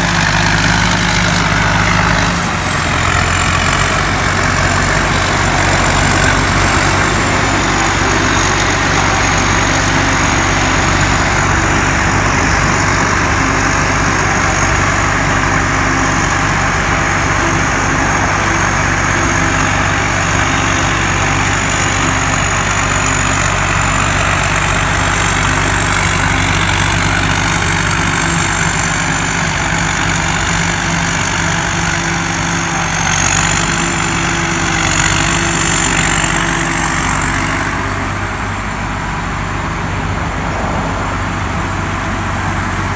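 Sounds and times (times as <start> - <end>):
combine harvester engine hum: 0.0 - 42.9
high wavering blower whine: 0.0 - 42.9.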